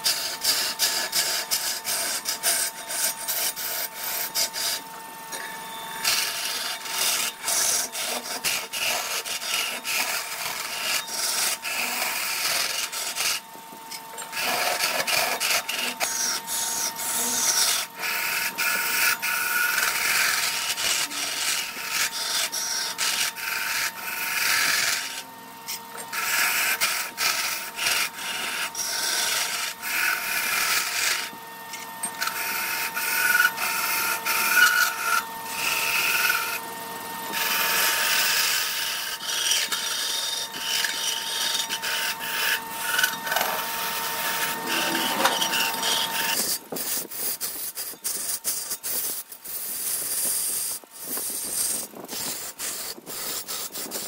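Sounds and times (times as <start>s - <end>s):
lathe tool cutting wood: 0.0s - 48.8s, 49.5s - 54.0s
steady whine: 0.0s - 54.0s.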